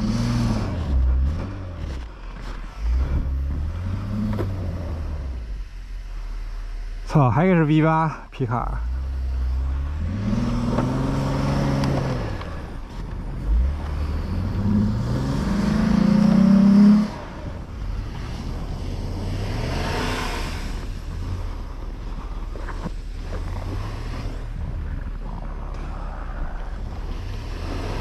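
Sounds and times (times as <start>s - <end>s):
vehicle engine revving: 0.0s - 7.1s, 8.7s - 28.0s.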